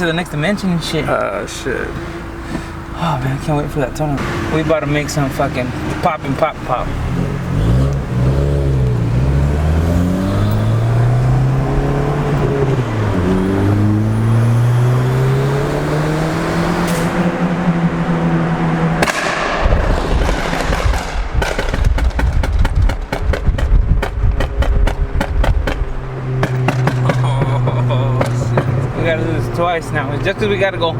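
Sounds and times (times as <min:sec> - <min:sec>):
car engine accelerating: 0:00.1 - 0:30.9
exhaust crackling and popping: 0:03.3 - 0:15.1, 0:16.9 - 0:30.7.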